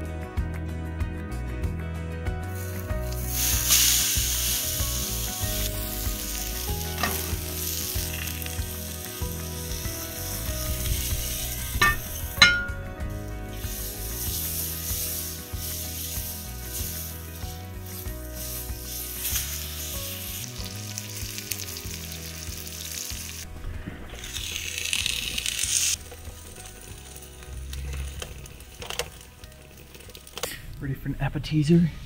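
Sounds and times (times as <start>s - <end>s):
food sizzling in a pan: 2.5s - 30.4s.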